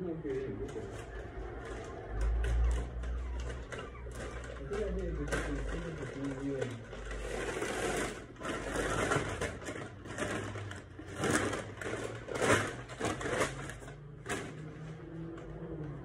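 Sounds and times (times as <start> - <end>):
rustling and crunching handling noise: 0.0 - 16.0.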